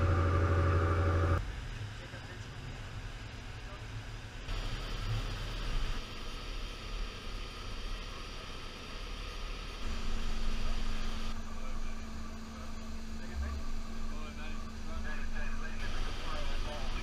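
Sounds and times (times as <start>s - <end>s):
ship deck machinery running: 0.0s - 17.0s
steady mechanical hum: 0.0s - 17.0s.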